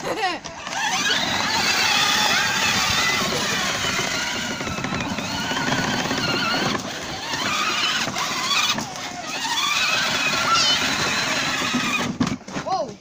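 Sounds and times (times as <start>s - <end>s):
plastic wheels rumbling on grass: 0.1s - 13.0s
electric motor whining: 0.6s - 12.2s.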